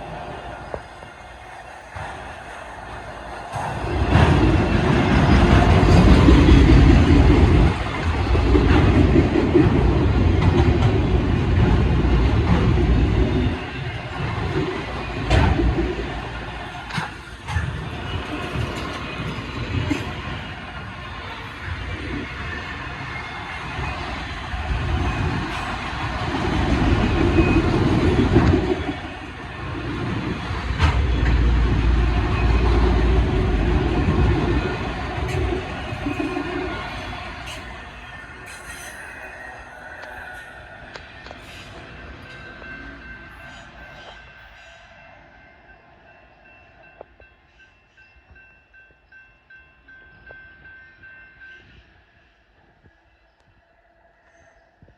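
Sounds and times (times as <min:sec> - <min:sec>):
freight train rumbling past: 0:00.0 - 0:52.6.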